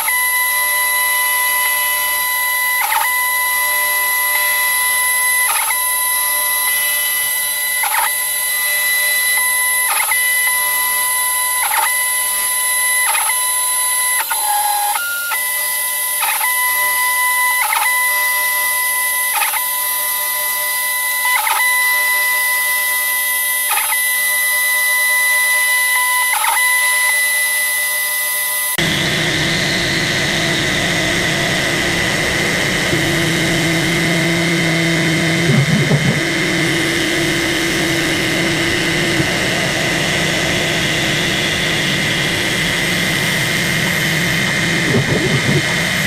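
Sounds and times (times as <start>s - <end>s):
stepper motors whining: 0.0s - 46.0s.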